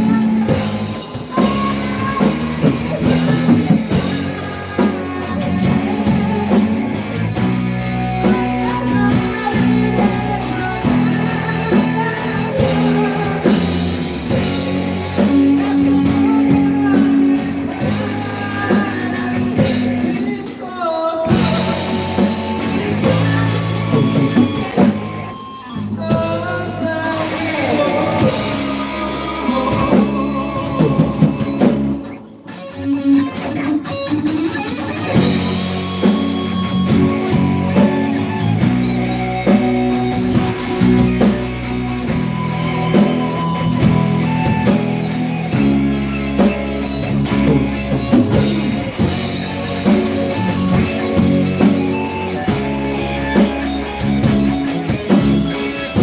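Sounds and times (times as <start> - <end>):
bass guitar: 0.0 - 56.0
drum kit: 0.0 - 56.0
electric guitar: 0.0 - 56.0
person singing lead vocal: 0.0 - 56.0.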